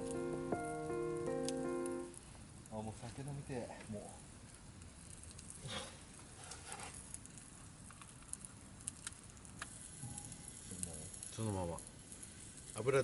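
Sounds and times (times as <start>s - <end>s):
sharp pops of fire: 0.0s - 3.0s, 3.8s - 13.0s
campfire crackling: 0.0s - 13.0s
low steady hiss: 0.0s - 13.0s.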